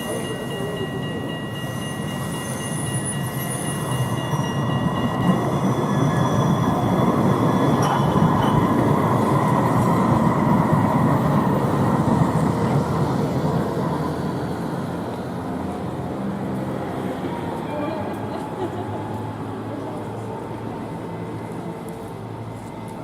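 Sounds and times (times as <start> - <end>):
tram running on rails: 0.0 - 23.0.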